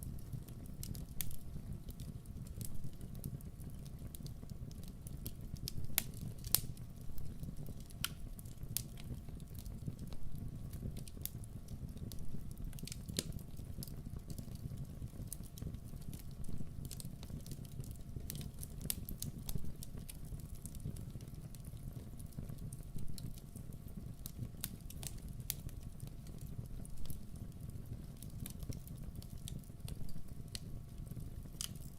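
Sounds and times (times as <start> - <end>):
low rumble of flames: 0.0 - 31.9
wood crackling and popping: 0.0 - 31.9.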